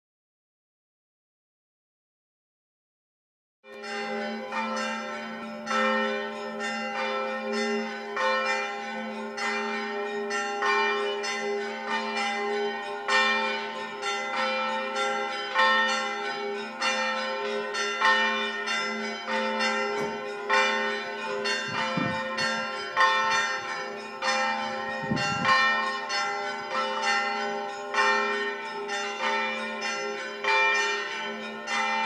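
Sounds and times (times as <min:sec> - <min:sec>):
church bells ringing: 0:03.7 - 0:32.0.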